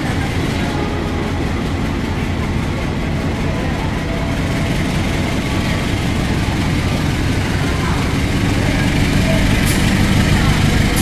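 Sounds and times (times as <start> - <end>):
diesel locomotive engine: 0.0 - 11.0
train wheels rumbling past: 0.0 - 11.0.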